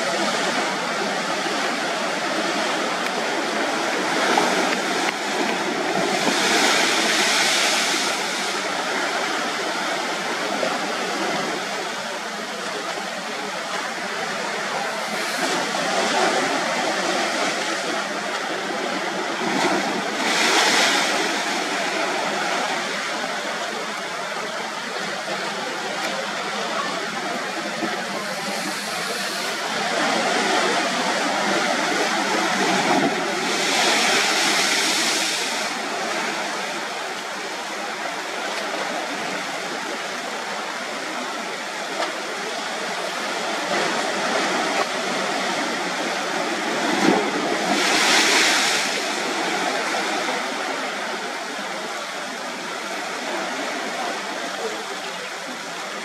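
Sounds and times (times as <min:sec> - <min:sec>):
surf on rocky shore: 0:00.0 - 0:56.0.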